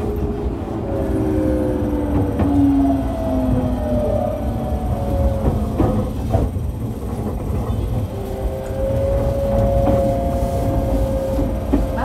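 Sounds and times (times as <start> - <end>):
rail rumble: 0.0 - 12.0
train motor whine: 0.1 - 12.0
wheels clicking over rail joints: 1.4 - 12.0.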